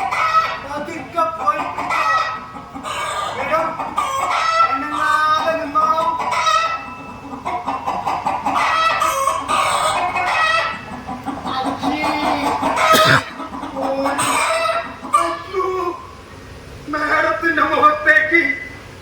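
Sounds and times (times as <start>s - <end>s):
hen-like clucking: 0.0s - 16.4s.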